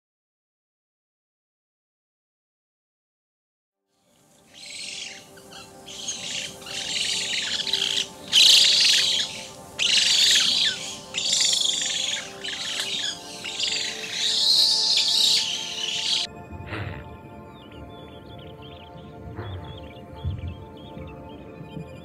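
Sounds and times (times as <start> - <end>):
birds chirping and twittering: 4.1 - 22.0.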